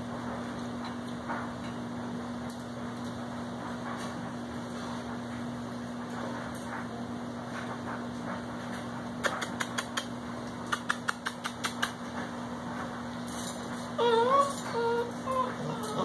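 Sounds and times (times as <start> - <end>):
low electric hum: 0.0 - 16.0.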